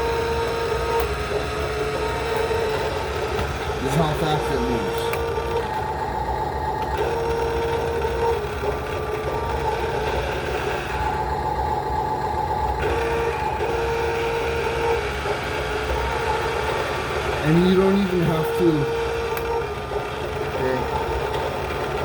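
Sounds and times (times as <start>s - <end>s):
toy truck lift motor whining: 0.0s - 22.0s.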